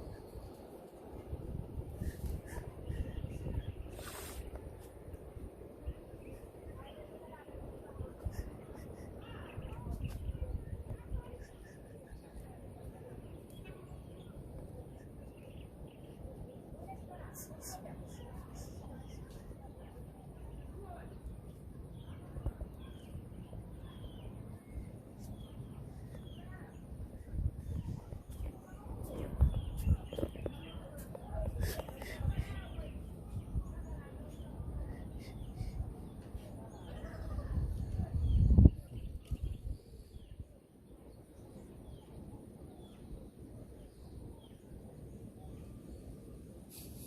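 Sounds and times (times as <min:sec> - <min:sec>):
small birds chirping: 0:05.8 - 0:46.1.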